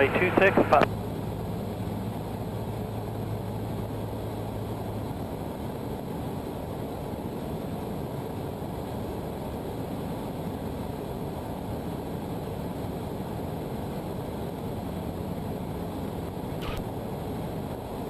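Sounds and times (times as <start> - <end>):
aircraft engine and propeller droning: 0.0 - 18.0.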